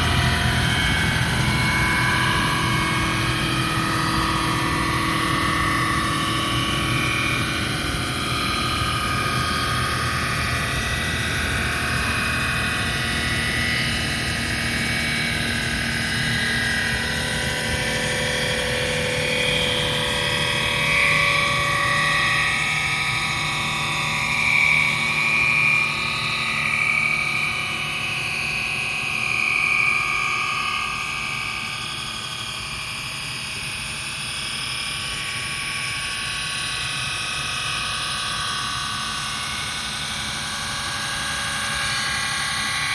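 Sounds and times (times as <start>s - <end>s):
high wavering whine: 0.0s - 42.9s
machine humming: 0.0s - 42.9s.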